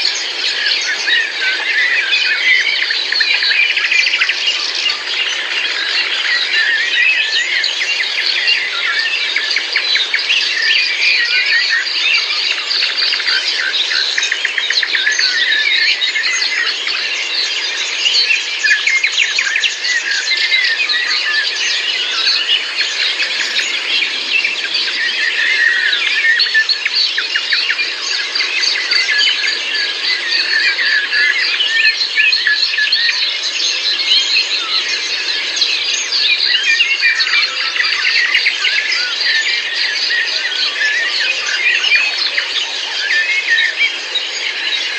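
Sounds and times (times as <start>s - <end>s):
birds singing and chirping: 0.0s - 44.9s.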